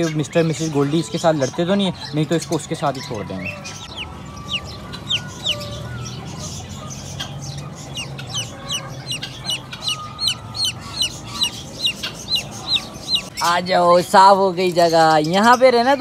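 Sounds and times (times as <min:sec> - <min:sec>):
chick peeping: 0:00.0 - 0:16.0.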